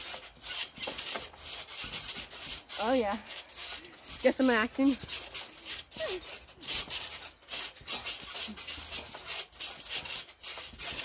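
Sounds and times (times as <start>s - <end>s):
trampoline springs creaking: 0.0s - 11.0s.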